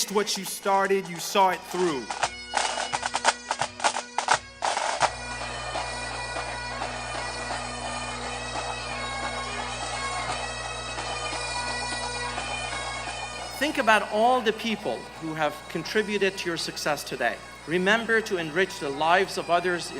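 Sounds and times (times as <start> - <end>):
bagpipes playing: 0.0 - 19.9.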